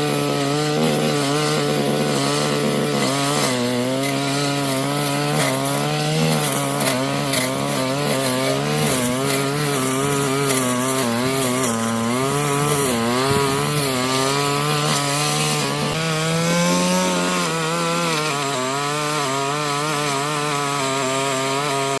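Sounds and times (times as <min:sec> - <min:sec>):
brush cutter engine cutting grass: 0:00.0 - 0:22.0.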